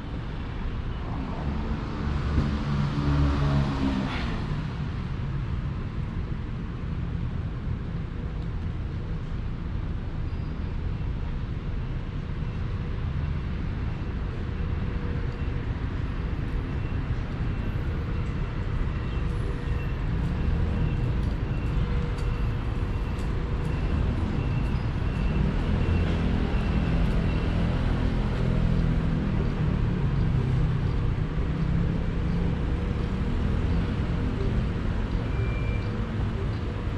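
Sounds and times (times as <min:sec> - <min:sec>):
low rumble of vehicles: 0:00.0 - 0:36.9.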